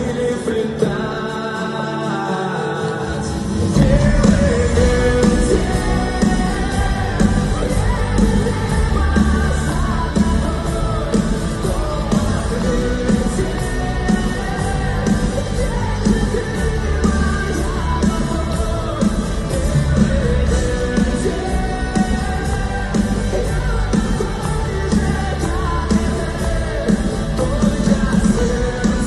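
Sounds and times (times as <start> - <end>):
live rock ballad band: 0.0 - 29.0
man singing: 0.0 - 29.0.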